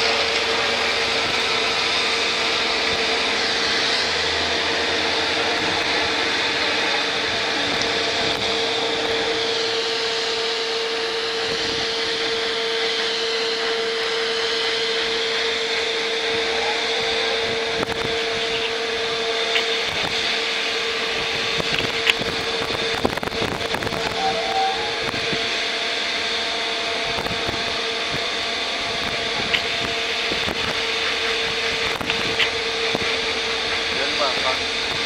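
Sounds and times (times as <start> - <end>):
distant locomotive engine drone: 0.0 - 35.0.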